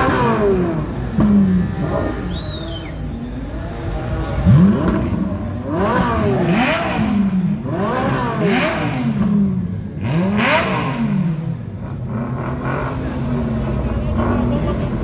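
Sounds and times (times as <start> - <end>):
sports car engine revving: 0.0 - 15.0.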